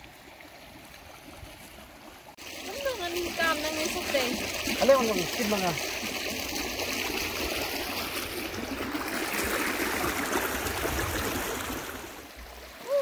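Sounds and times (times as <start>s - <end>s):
river water running over rocks: 0.0s - 13.0s.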